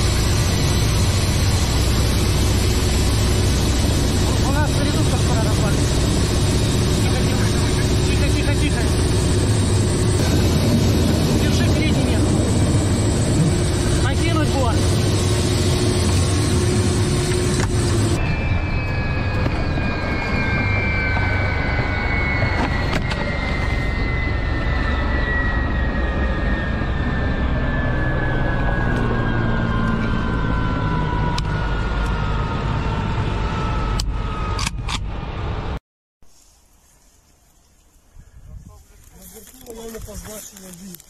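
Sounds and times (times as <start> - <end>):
helicopter engines winding down: 0.0 - 35.8.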